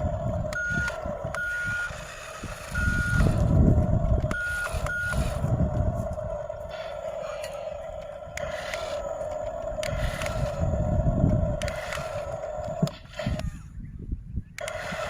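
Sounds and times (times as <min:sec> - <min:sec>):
reversing alarm beeping: 0:00.0 - 0:13.6
vehicle engine running: 0:00.0 - 0:15.0.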